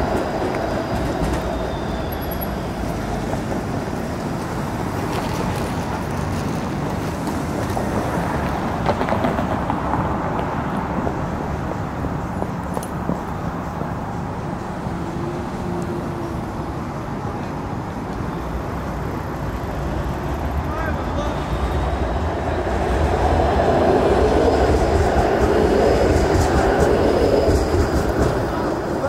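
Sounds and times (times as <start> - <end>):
city street traffic: 0.0 - 29.0
streetcar running: 0.0 - 29.0.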